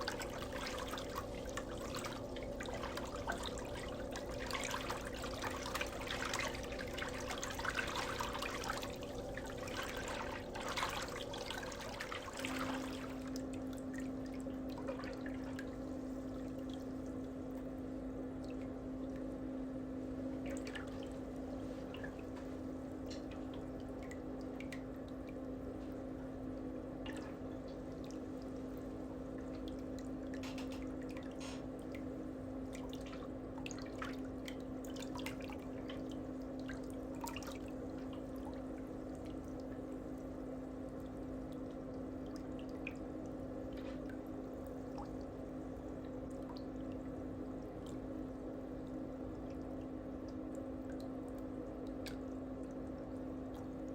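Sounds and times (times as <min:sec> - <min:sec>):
water dripping and trickling: 0:00.0 - 0:19.4, 0:20.4 - 0:53.9.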